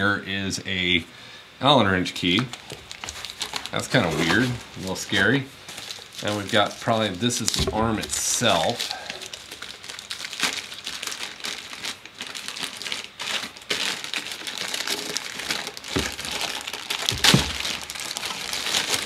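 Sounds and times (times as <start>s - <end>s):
plastic bag crinkling: 2.2s - 19.0s.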